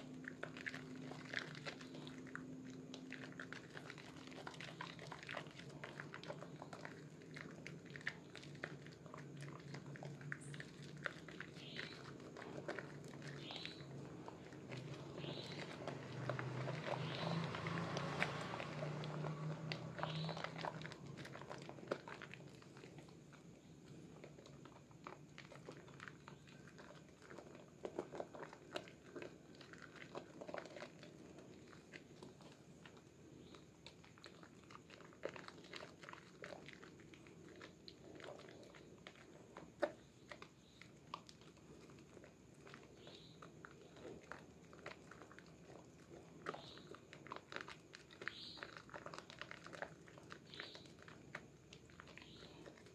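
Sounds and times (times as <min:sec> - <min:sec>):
wet squishing of soap lather: 0:00.0 - 0:52.9.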